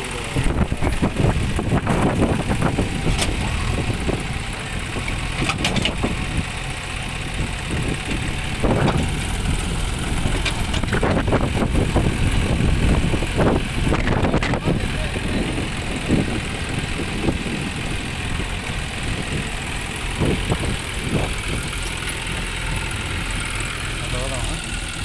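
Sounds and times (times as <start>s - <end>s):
diesel engines running: 0.0s - 25.0s.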